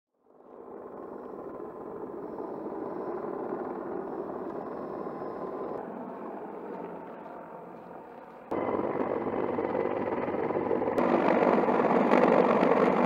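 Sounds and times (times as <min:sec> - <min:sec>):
distant helicopter drone: 0:00.1 - 0:13.0.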